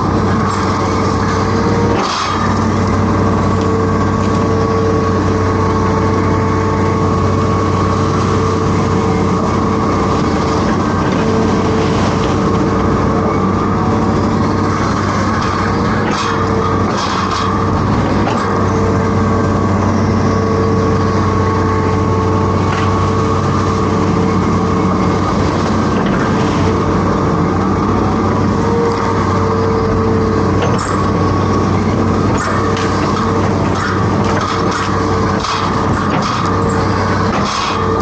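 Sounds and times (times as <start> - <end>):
excavator diesel engine whining: 0.0 - 38.0.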